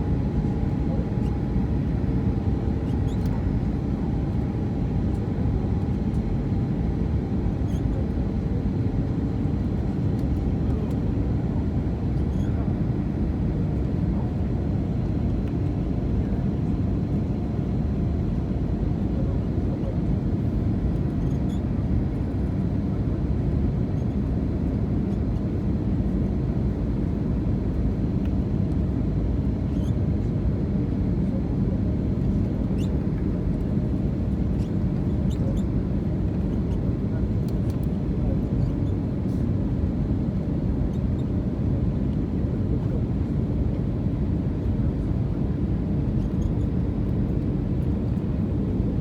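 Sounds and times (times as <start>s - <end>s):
airliner cabin rumble: 0.0s - 25.8s, 26.6s - 49.0s.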